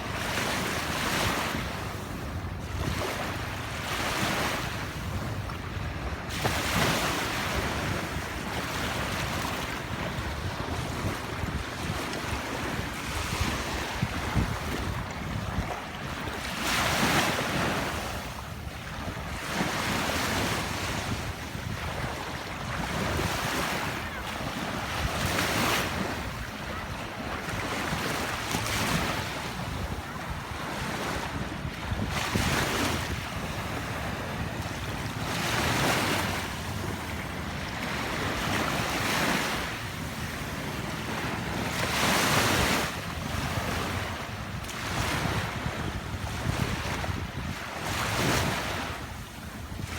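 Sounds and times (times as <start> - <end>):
waves breaking on beach: 0.0 - 49.9
wind buffeting microphone: 0.1 - 49.9.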